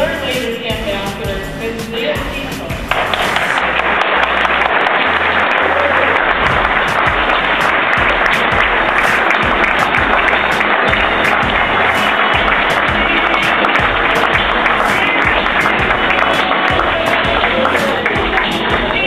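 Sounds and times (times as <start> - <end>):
music playing: 0.0 - 19.0
audience applauding: 2.9 - 19.0.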